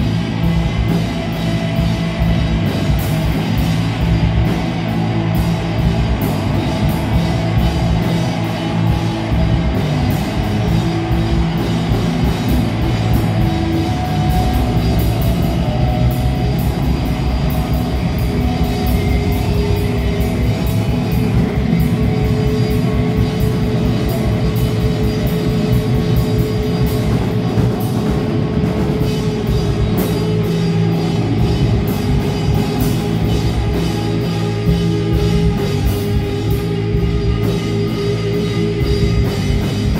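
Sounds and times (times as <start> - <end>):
bass guitar: 0.0 - 39.9
drum kit: 0.0 - 39.9
electric guitars: 0.0 - 39.9.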